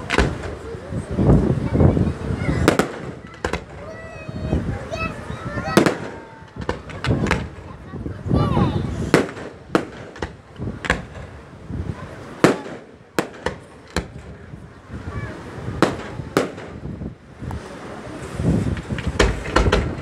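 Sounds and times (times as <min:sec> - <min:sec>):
fireworks bangs: 0:00.0 - 0:17.8, 0:18.6 - 0:20.0.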